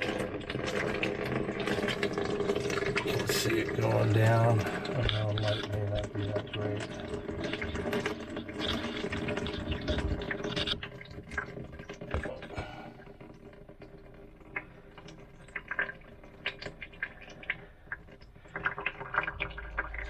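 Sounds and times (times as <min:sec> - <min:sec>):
water drips: 0:00.0 - 0:20.0
water running down sink drain: 0:00.0 - 0:20.0.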